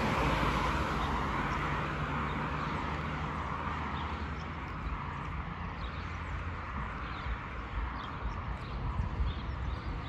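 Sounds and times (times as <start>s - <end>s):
low street rumble: 0.0s - 10.0s.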